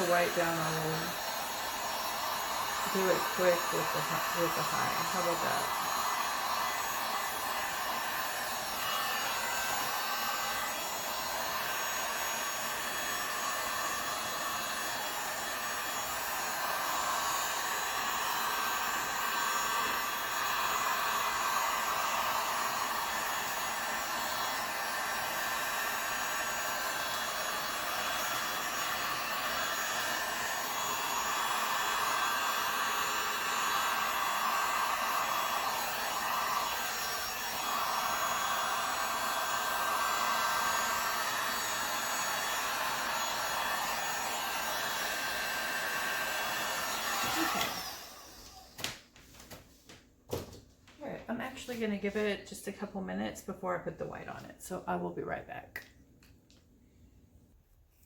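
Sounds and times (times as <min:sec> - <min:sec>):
heat gun blowing: 0:00.0 - 0:49.0.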